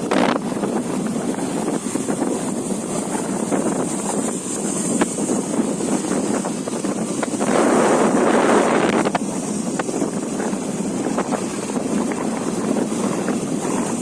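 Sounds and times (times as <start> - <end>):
motorcycle running: 0.0 - 14.0
wind buffeting microphone: 0.0 - 14.0.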